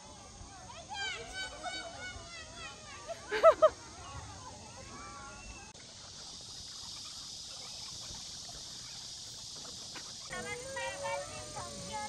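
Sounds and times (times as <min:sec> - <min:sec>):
faint outdoor background: 0:00.0 - 0:12.0
high-pitched insect chorus: 0:00.0 - 0:12.0.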